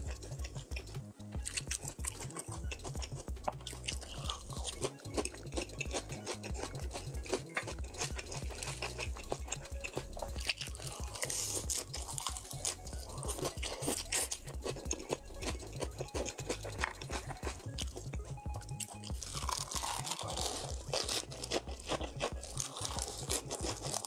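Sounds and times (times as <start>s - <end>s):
background music with bass: 0.0s - 24.0s
chewing crunchy food: 0.0s - 24.0s.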